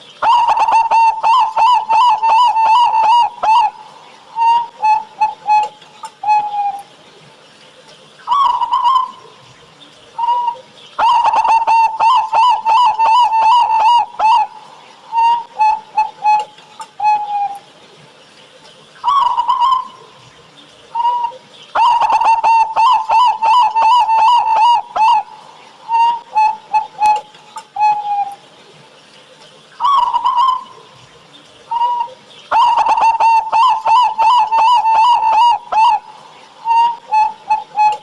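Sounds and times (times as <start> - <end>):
dove cooing: 0.2 - 7.0, 8.3 - 9.6, 10.2 - 17.7, 19.0 - 20.4, 21.0 - 28.4, 29.8 - 38.0.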